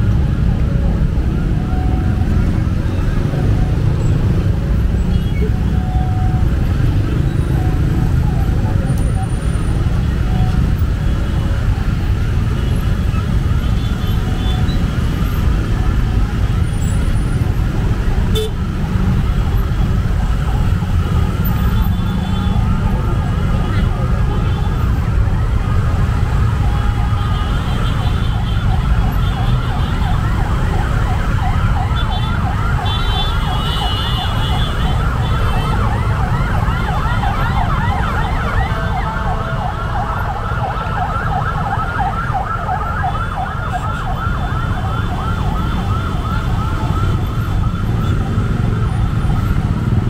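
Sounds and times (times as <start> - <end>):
siren yelping: 0.1 - 12.1, 13.1 - 50.0.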